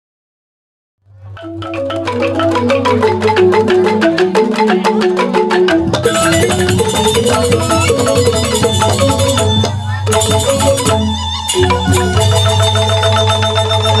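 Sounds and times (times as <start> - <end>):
gamelan ensemble playing: 1.1 - 14.0
metallophones ringing notes: 1.1 - 14.0.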